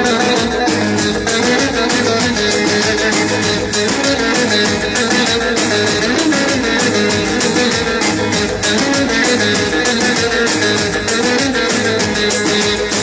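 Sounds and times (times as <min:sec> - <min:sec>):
electronic keyboard dance music: 0:00.0 - 0:13.0.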